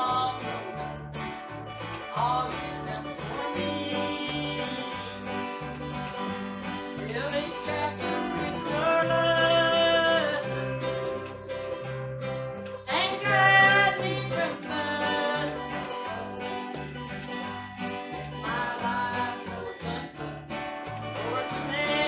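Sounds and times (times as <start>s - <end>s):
person singing: 0.0s - 0.9s, 2.0s - 5.6s, 6.8s - 11.5s, 12.8s - 22.0s
acoustic guitar: 0.0s - 22.0s
electric bass guitar: 0.0s - 22.0s.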